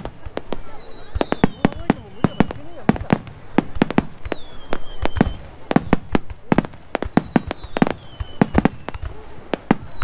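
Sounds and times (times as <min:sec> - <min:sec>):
falling firework whistle: 0:00.0 - 0:10.0.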